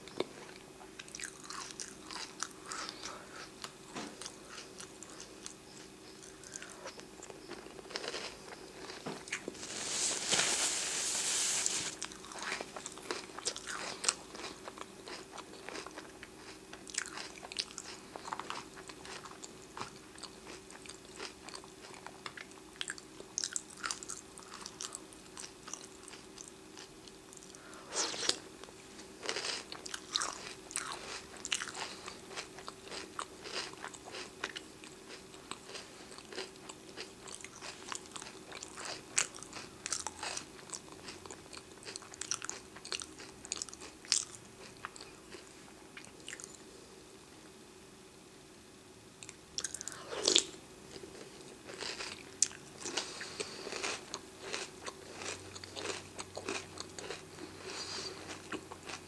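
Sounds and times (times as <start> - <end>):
crunching cereal chewing: 0.0 - 46.6, 49.2 - 59.0.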